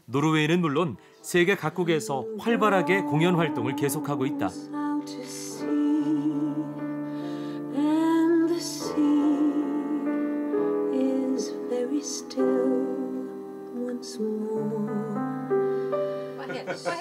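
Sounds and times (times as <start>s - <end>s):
piano accompaniment: 0.0s - 17.0s
woman singing: 1.8s - 7.0s, 7.6s - 15.5s, 16.4s - 17.0s.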